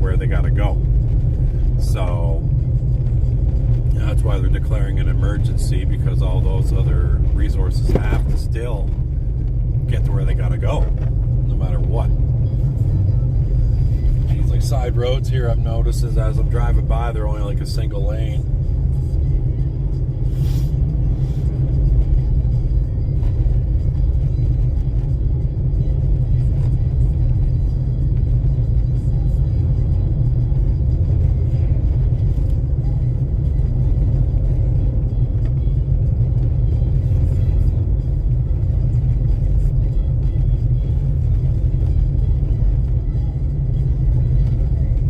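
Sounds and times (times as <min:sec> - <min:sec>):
car engine and road noise: 0:00.0 - 0:45.0.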